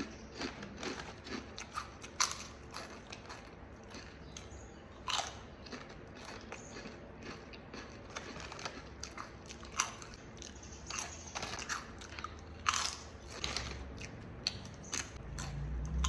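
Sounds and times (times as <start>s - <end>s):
crunching potato chips: 0.0s - 16.0s.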